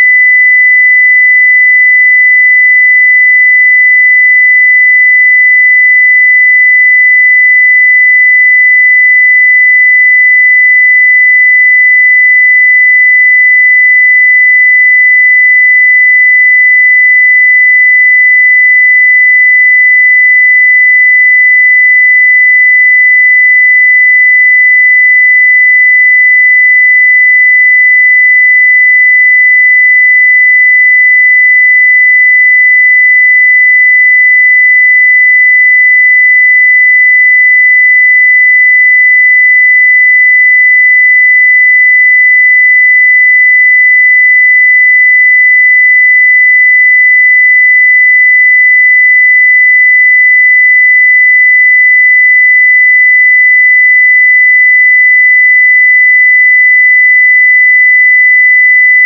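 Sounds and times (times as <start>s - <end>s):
sine wave test tone: 0.0s - 59.0s.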